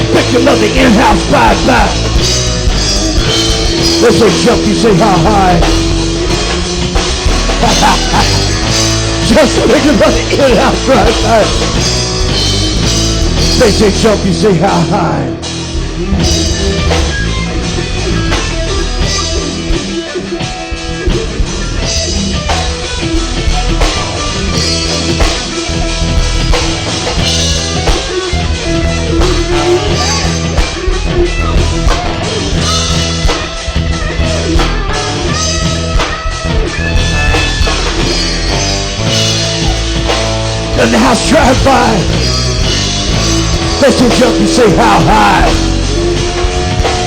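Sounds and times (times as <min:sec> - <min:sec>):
rock band playing: 0:00.0 - 0:47.0.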